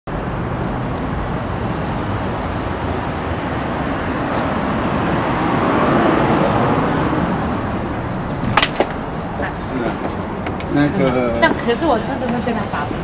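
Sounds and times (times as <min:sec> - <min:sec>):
street traffic rumble: 0:00.1 - 0:13.0.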